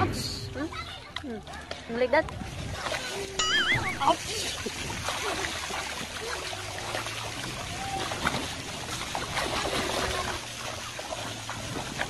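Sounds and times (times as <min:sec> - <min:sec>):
shallow water splashing: 0:01.4 - 0:12.0.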